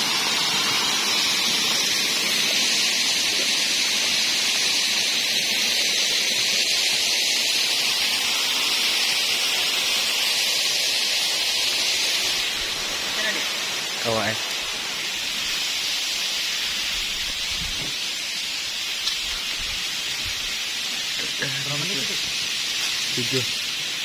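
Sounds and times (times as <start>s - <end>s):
small waterfall hissing: 0.0s - 24.0s.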